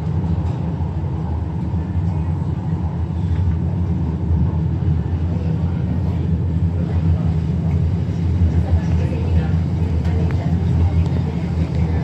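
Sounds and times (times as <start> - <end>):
train carriage rumble and hum: 0.0 - 12.0.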